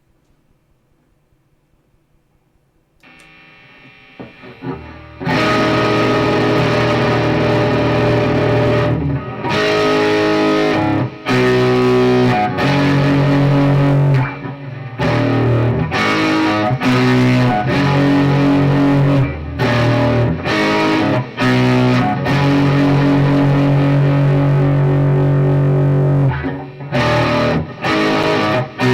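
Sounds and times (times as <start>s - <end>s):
electric guitar chords: 3.0s - 28.9s.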